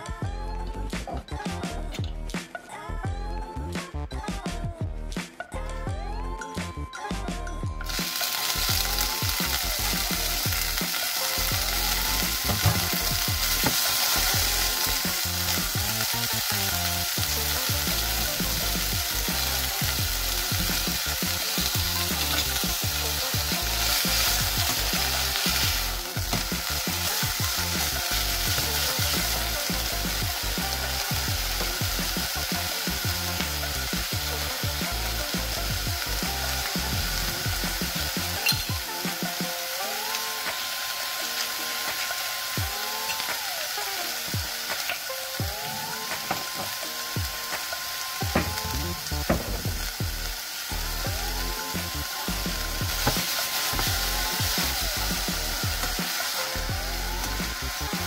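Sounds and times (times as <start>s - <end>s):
vegetables sizzling in oil: 7.8s - 58.0s.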